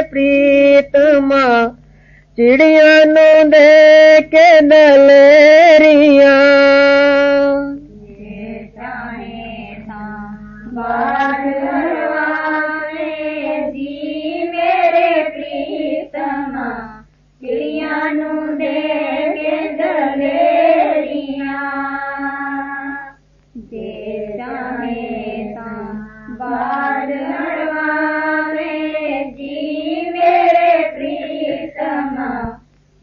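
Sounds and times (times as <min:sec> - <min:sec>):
person singing devotional song: 0:00.0 - 0:32.7.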